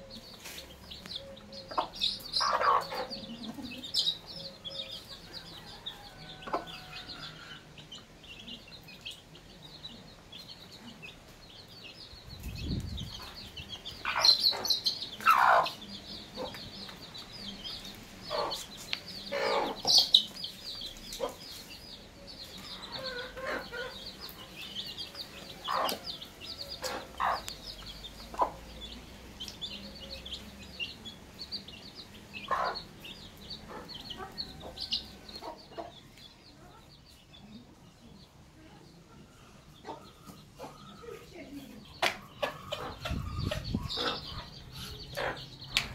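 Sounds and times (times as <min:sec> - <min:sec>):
hen clucking: 0:00.0 - 0:09.2, 0:12.4 - 0:21.7, 0:22.5 - 0:30.5, 0:31.6 - 0:36.0, 0:39.8 - 0:45.9
chicks peeping: 0:00.0 - 0:45.9.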